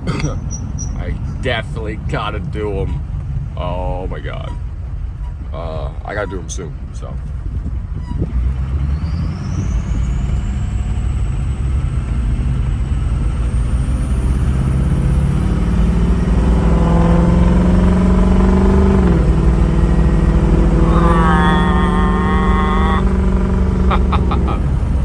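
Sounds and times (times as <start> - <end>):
diesel engine pulling hard: 0.0 - 25.0.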